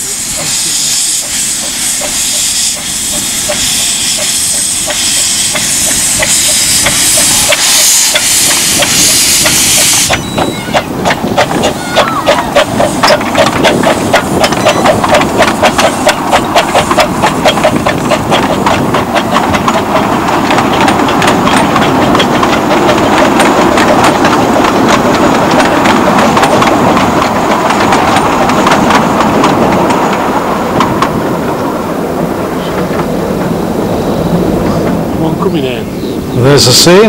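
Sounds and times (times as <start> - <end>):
miniature train running: 0.0 - 31.2.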